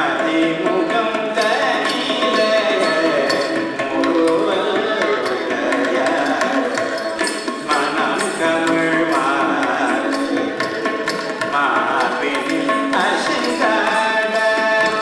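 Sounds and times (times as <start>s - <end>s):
mridangam drum strokes: 0.0s - 15.0s
person singing: 0.0s - 15.0s
violin melody: 0.0s - 15.0s.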